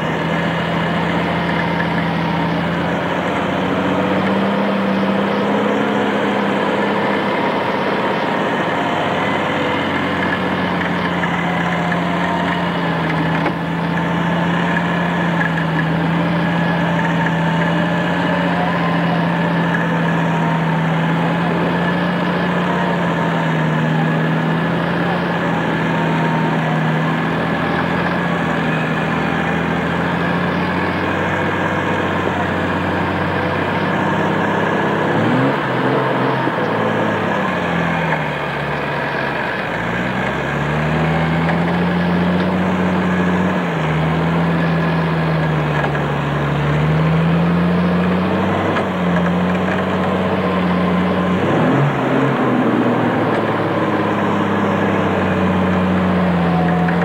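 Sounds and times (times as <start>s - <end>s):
engine running under load: 0.0s - 57.0s.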